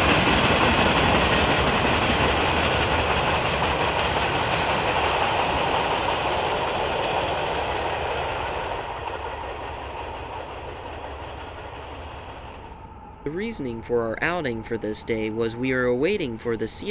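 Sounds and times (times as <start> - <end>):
freight train rolling past: 0.0 - 16.9.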